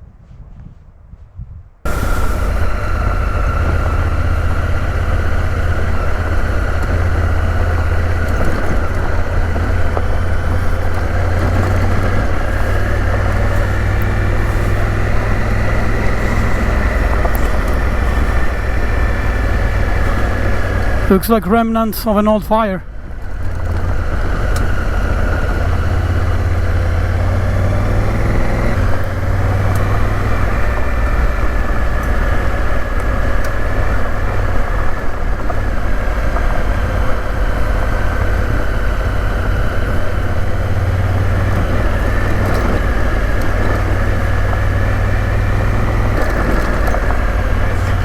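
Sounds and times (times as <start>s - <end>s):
motorcycle engine running: 1.9s - 21.7s, 22.3s - 48.0s.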